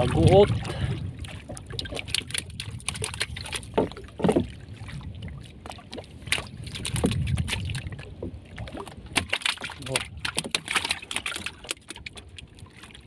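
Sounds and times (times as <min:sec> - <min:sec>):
water sloshing against boat: 0:00.0 - 0:13.0.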